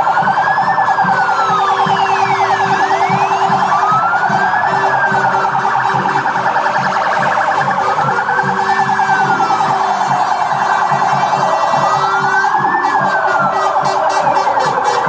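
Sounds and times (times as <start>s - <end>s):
siren wailing: 0.0s - 15.0s
steady low beat: 0.0s - 15.0s.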